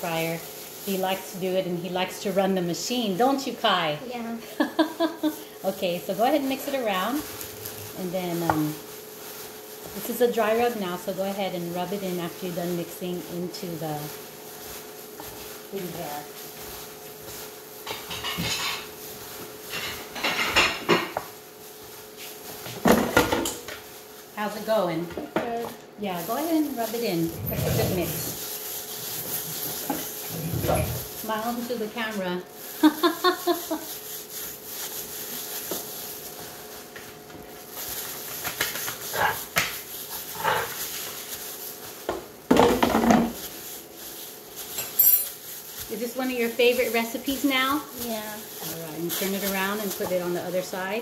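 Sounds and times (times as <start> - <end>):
plastic glove rustling: 0.0 - 51.0.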